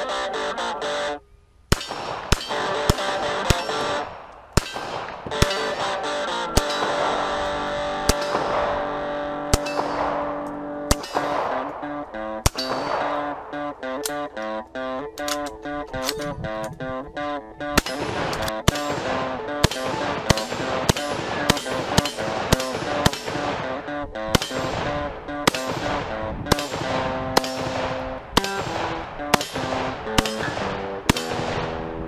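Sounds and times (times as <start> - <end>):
background music: 0.0 - 1.2, 1.8 - 32.0
rifle shots with echo: 1.7 - 14.2, 17.7 - 32.0.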